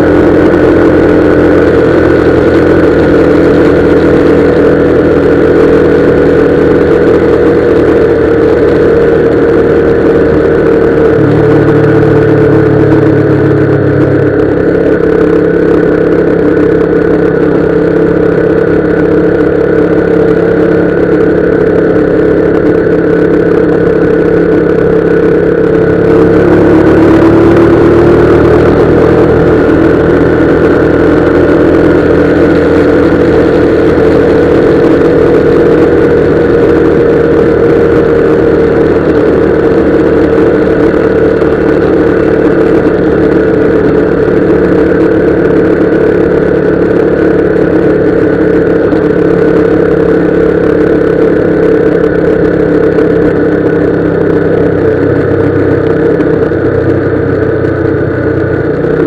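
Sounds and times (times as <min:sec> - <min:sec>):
motorcycle engine cruising: 0:00.0 - 0:59.0
road and wind noise: 0:00.0 - 0:59.0.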